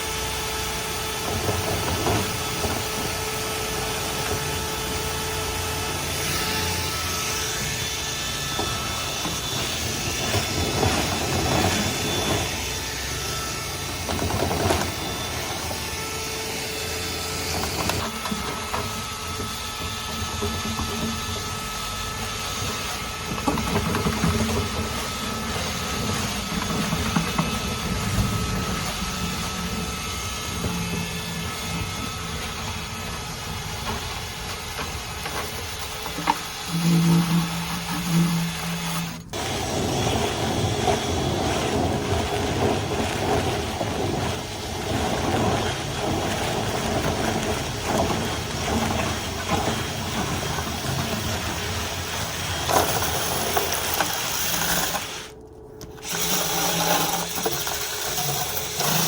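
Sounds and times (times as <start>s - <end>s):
motor running with rushing air: 0.0s - 59.0s.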